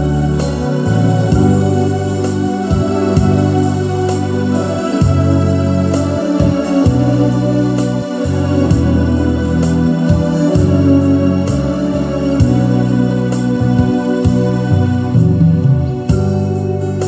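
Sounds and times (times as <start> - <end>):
bass line: 0.0 - 17.0
electronic organ chords: 0.0 - 17.0.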